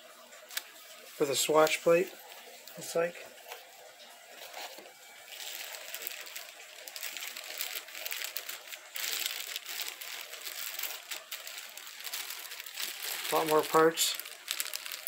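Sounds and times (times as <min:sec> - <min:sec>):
plastic packaging crinkling: 0:00.2 - 0:15.0.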